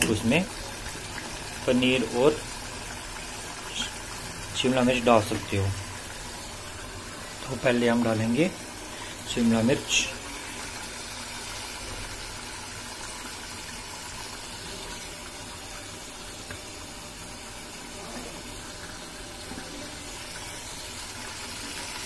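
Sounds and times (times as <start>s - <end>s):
gravy hissing in a pot: 0.2s - 22.0s.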